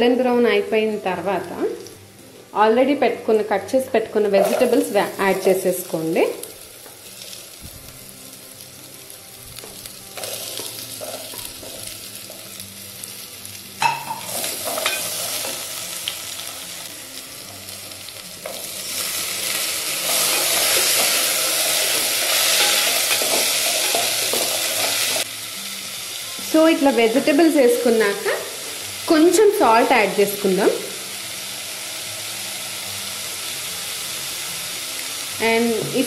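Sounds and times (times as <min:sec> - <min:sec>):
vegetables sizzling in a pot: 0:00.1 - 0:36.0.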